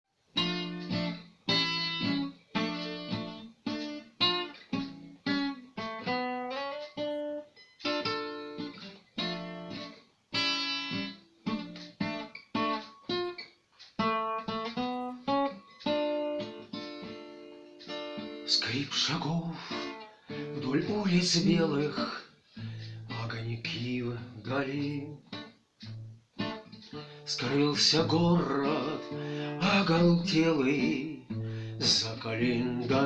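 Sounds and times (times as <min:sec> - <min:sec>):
acoustic guitar strumming: 0:00.3 - 0:33.0.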